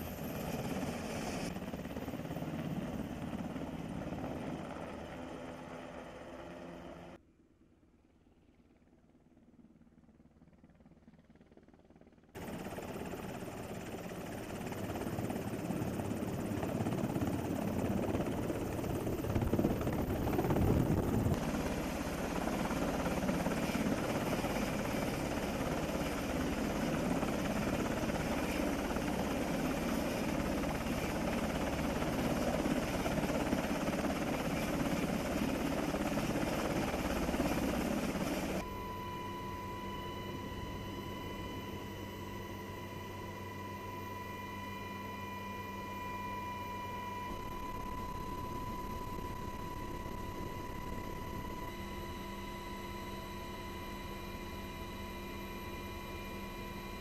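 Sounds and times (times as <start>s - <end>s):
helicopter cabin noise with whine: 0.0s - 7.2s, 8.4s - 57.0s
helicopter rotor and turbine noise: 0.0s - 7.2s, 7.9s - 57.0s.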